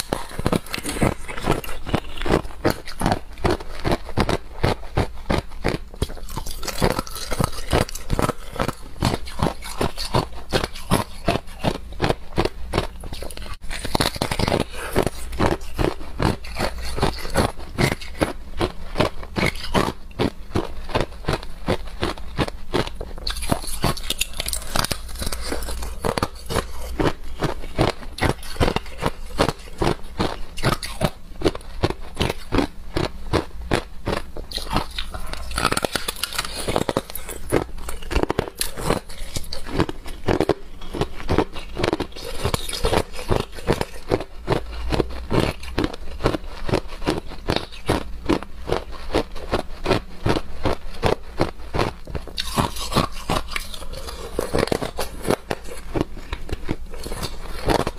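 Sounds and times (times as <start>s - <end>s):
ice being chewed crunching: 0.0s - 57.9s.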